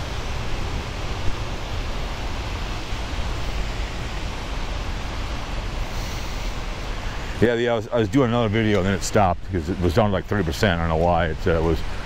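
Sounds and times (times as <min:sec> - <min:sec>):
city background noise: 0:00.0 - 0:12.0
wind rumble on microphone: 0:00.0 - 0:12.0.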